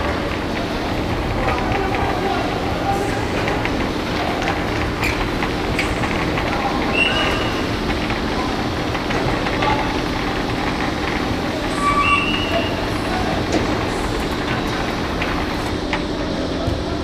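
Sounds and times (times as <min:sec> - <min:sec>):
rumbling din with low hum: 0:00.0 - 0:17.0.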